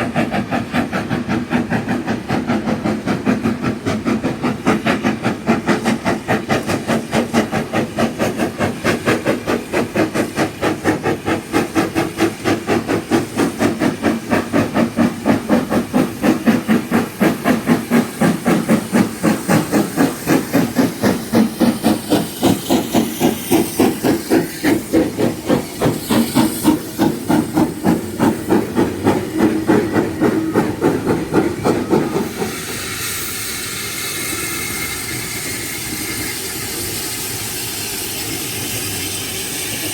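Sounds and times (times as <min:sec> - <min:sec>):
steam hissing: 0:00.0 - 0:39.9
steam locomotive exhaust beats: 0:00.0 - 0:39.9.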